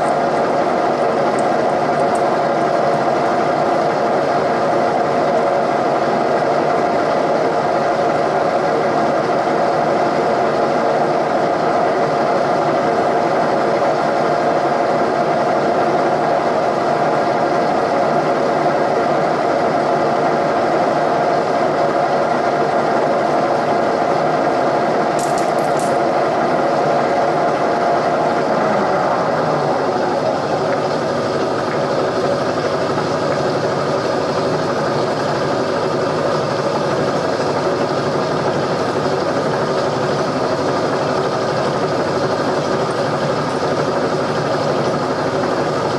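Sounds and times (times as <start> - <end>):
machine tool droning hum: 0.0 - 45.9.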